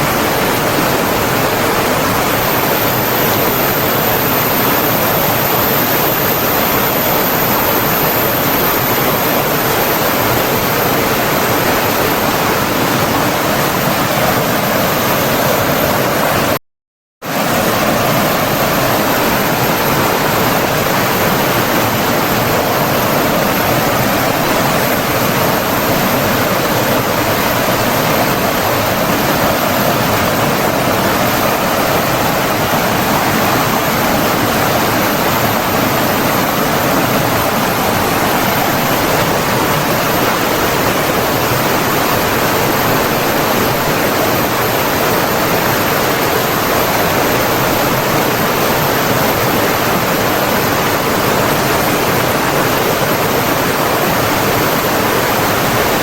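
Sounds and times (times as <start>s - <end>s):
water rushing: 0.0s - 16.6s, 17.3s - 56.0s.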